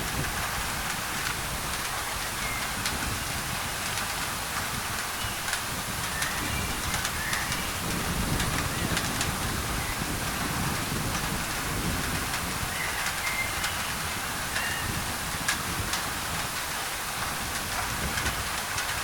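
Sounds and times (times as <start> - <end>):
rain on a tin roof: 0.0 - 19.0.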